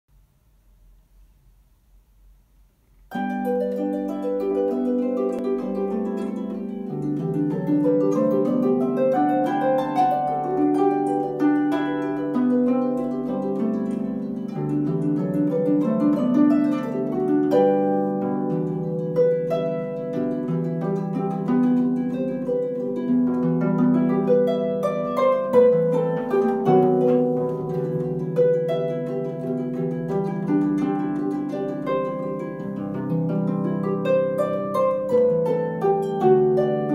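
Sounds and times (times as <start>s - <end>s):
solo harp playing: 3.1s - 36.9s.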